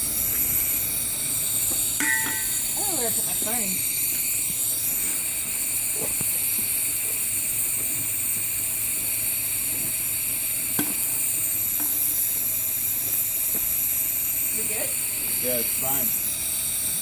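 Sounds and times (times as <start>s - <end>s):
flamethrower jet hissing: 0.0s - 17.0s.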